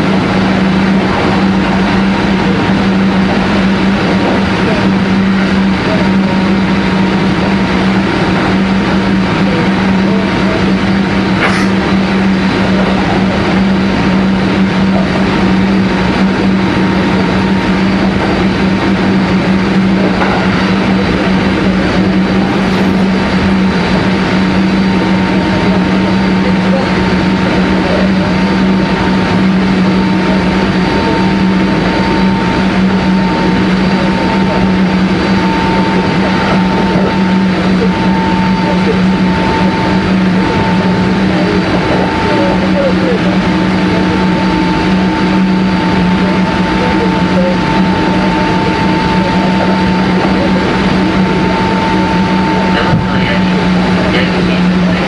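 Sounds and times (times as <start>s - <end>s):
electric train running: 0.0s - 55.0s.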